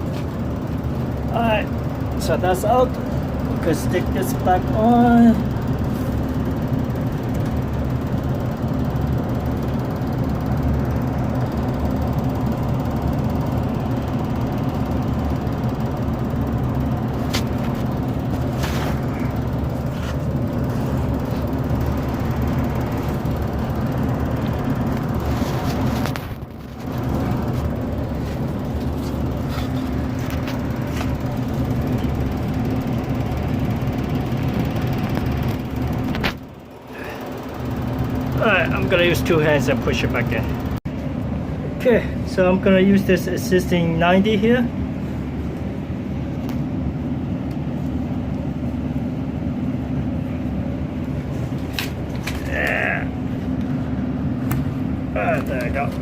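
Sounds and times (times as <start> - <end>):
furnace humming: 0.0 - 56.0.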